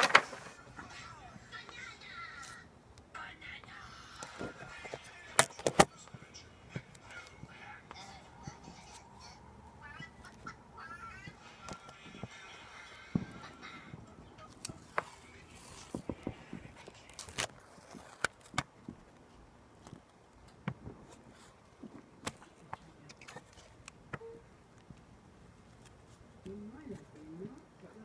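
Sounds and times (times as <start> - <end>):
low background hiss: 0.0 - 28.0.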